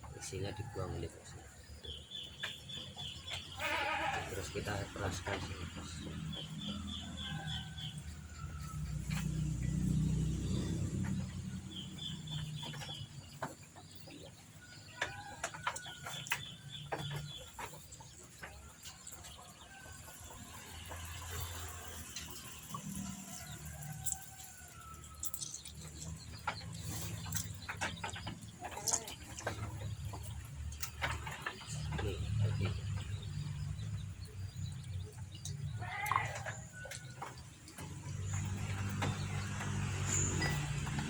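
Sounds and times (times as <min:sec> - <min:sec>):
birds chirping: 0:00.0 - 0:41.0
chickens clucking: 0:04.6 - 0:41.0.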